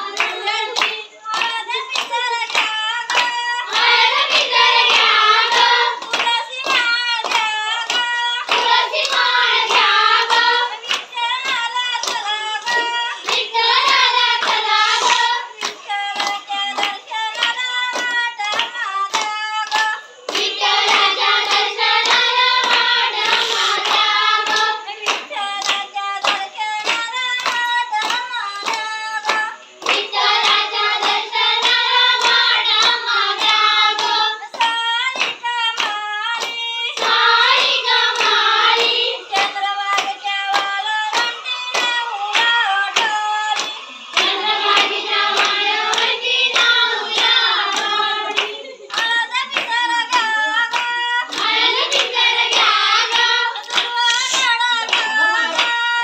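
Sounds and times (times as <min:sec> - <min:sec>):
steady hand claps: 0:00.0 - 0:56.0
women singing folk song: 0:00.0 - 0:56.0.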